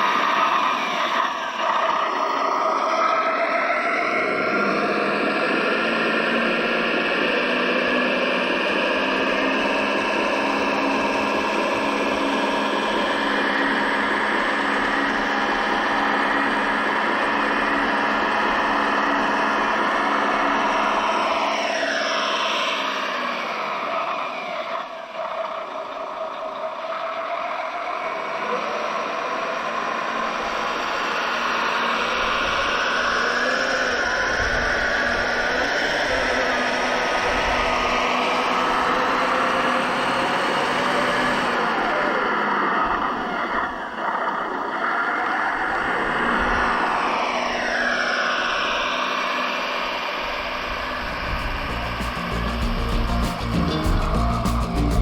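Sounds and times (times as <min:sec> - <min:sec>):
electric motor whine: 0:00.0 - 0:24.6, 0:28.0 - 0:55.0.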